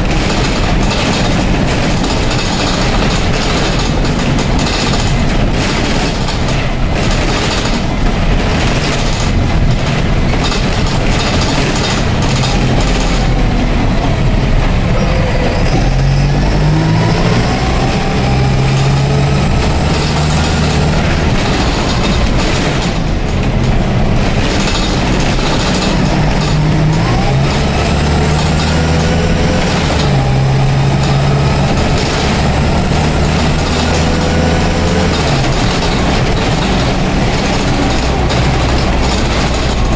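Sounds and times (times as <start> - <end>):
bus engine accelerating: 0.0 - 39.9
interior rattles: 0.0 - 39.9.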